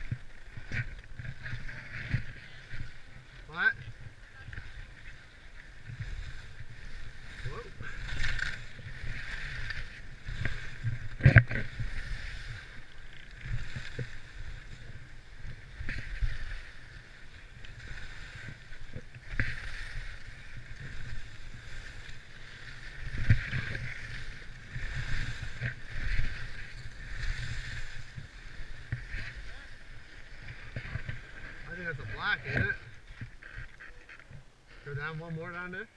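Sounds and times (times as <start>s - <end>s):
wind rumbling on microphone: 0.0s - 34.7s
skis scraping over packed snow: 0.0s - 35.9s.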